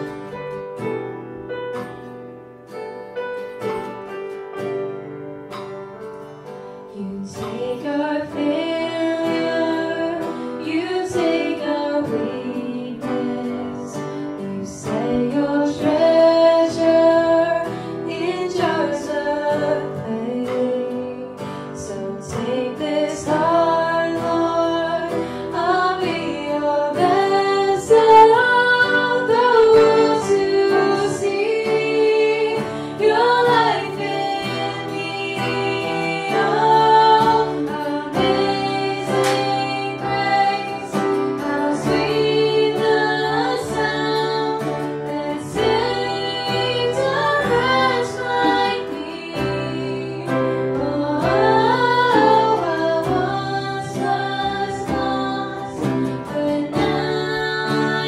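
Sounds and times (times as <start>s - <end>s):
plucked guitar: 0.0s - 58.0s
person singing: 6.9s - 58.0s.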